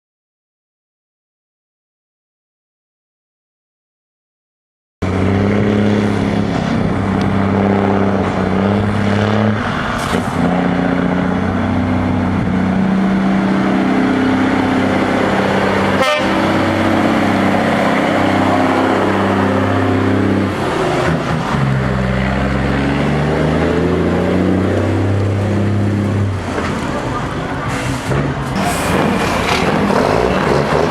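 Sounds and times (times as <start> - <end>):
heavy truck with open exhaust revving: 5.0 - 30.9.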